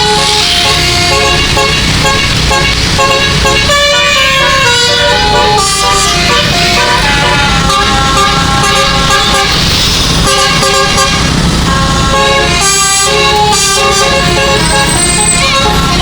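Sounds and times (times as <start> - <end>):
musical air horn tune: 0.0 - 16.0
low rumble: 0.9 - 15.8.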